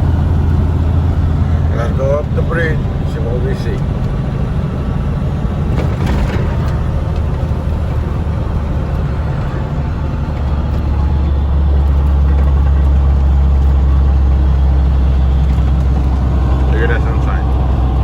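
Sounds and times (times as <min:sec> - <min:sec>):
road noise: 0:00.0 - 0:18.0
truck diesel engine drone: 0:00.0 - 0:18.0.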